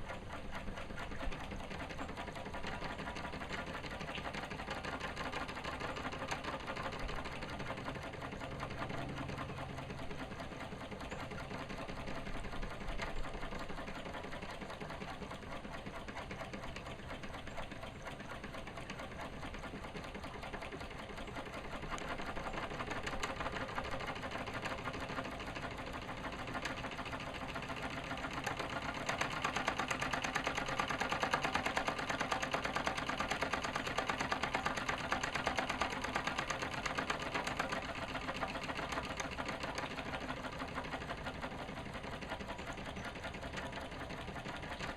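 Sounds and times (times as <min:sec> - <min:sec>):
model steam engine chuffing: 0:00.0 - 0:44.9.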